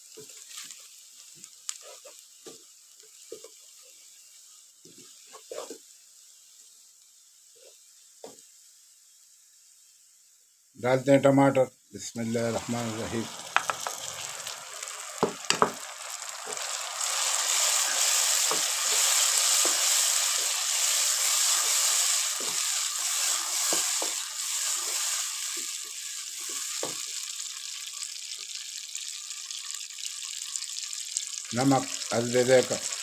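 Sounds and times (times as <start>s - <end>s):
tomato puree sizzling in pan: 0.0s - 33.0s.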